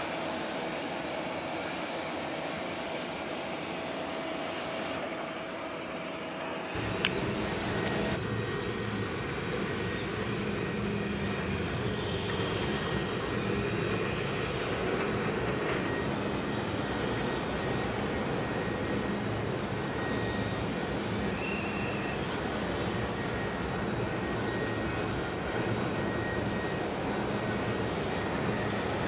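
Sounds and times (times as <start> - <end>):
distant engine drone: 0.0 - 29.0.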